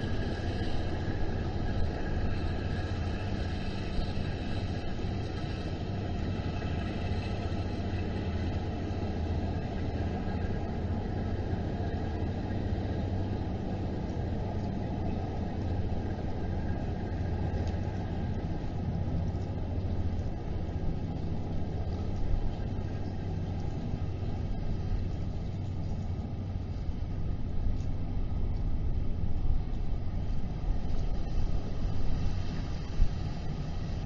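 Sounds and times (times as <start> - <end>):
tugboat diesel engine rumble: 0.0 - 34.0.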